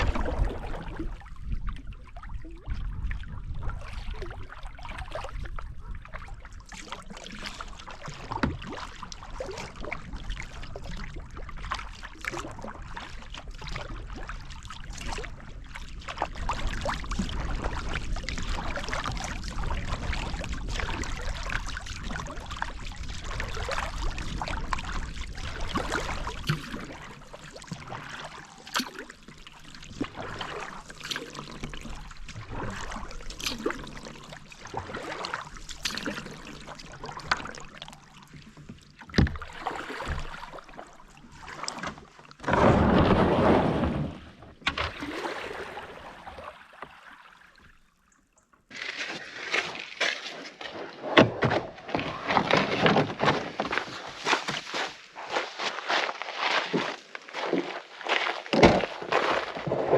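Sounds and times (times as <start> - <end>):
paddle blades splashing: 3.6 - 47.8, 48.7 - 59.9.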